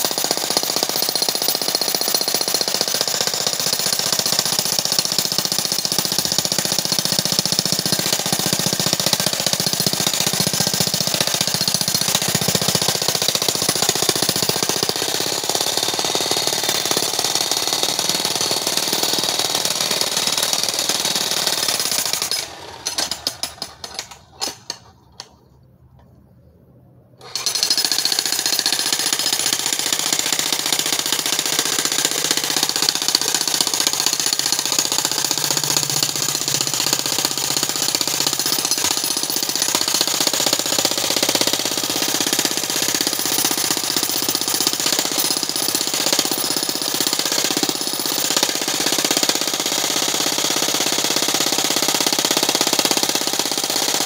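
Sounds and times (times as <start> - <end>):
jackhammer breaking rock: 0.0 - 25.0, 27.2 - 54.0.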